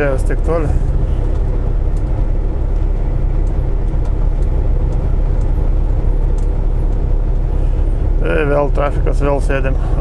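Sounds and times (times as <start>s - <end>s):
diesel truck engine drone: 0.0s - 10.0s.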